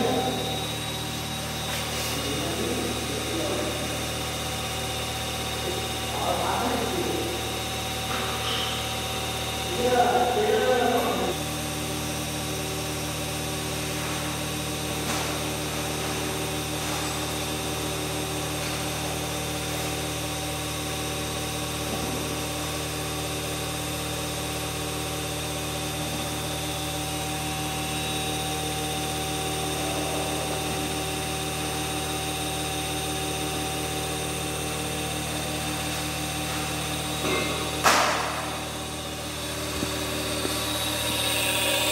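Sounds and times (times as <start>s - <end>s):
high whine: 0.0s - 41.9s
hydraulic pump motor humming: 0.0s - 41.9s.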